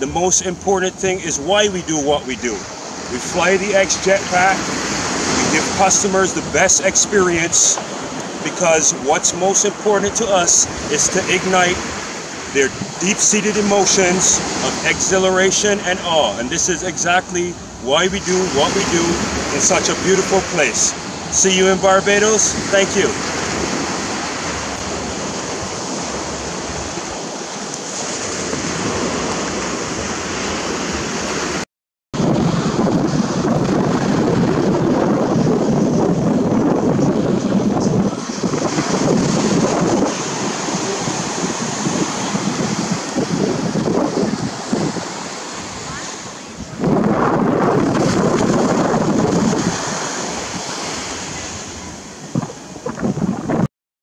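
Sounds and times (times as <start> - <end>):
surf rushing: 0.0 - 31.6, 32.2 - 53.7
wind buffeting microphone: 0.0 - 31.6, 32.2 - 53.7
small waves breaking on sand: 0.4 - 16.4, 17.0 - 31.6, 37.0 - 53.5.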